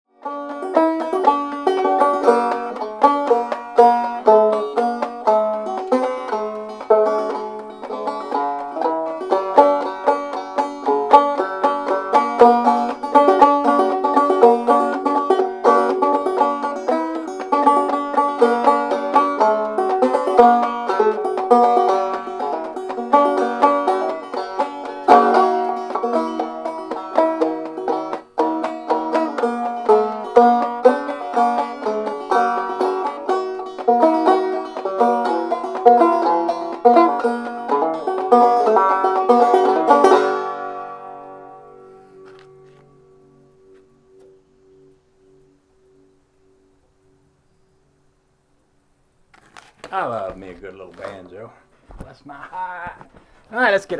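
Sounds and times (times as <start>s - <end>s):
banjo plucking and strumming: 0.1s - 44.4s, 49.4s - 51.6s.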